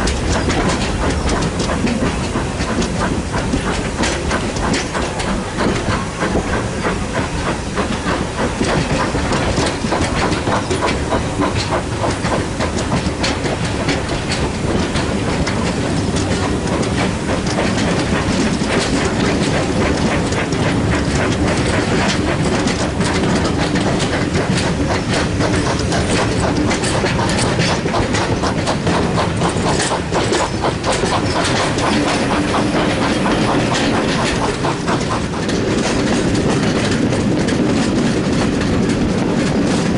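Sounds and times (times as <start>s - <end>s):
train rumbling along track: 0.0s - 39.9s
wheels clicking over rail joints: 0.0s - 39.9s.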